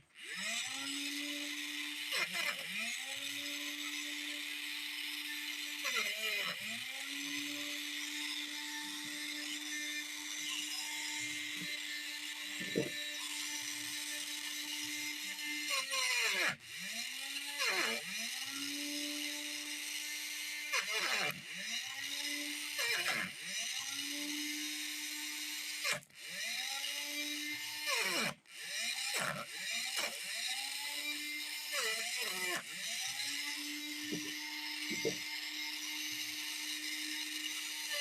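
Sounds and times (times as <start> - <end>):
small motor whining: 0.0 - 38.0.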